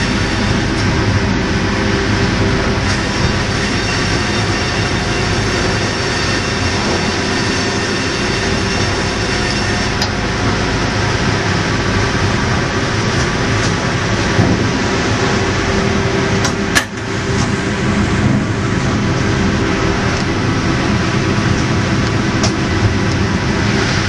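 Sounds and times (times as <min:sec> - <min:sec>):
sawmill machinery din: 0:00.0 - 0:24.0.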